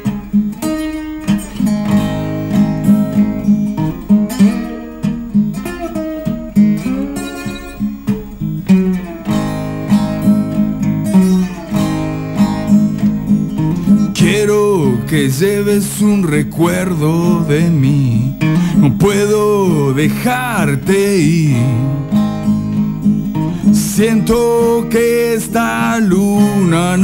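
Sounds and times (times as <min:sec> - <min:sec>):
slide guitar blues: 0:00.0 - 0:27.0.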